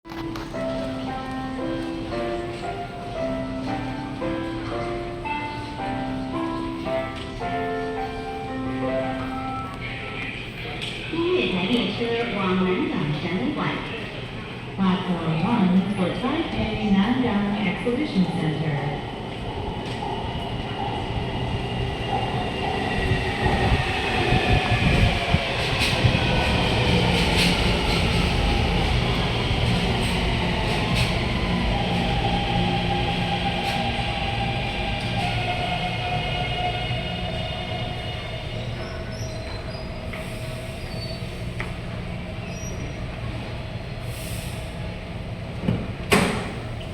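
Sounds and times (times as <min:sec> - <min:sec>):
train rumble: 0:00.0 - 0:46.9.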